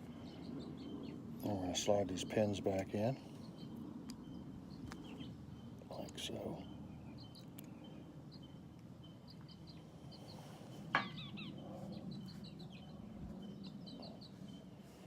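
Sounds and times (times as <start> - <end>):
low steady hum: 0.0 - 15.0
small birds chirping: 0.0 - 15.0.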